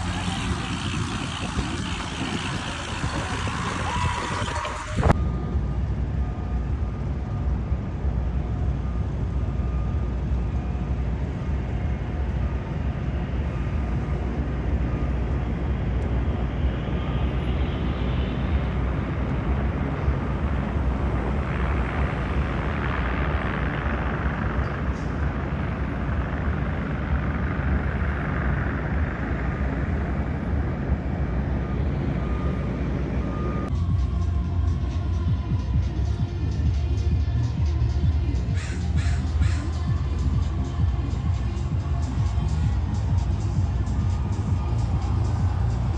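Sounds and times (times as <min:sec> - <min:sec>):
vehicles passing: 0:00.0 - 0:05.2, 0:12.4 - 0:45.9
city street traffic rumble: 0:00.0 - 0:45.9.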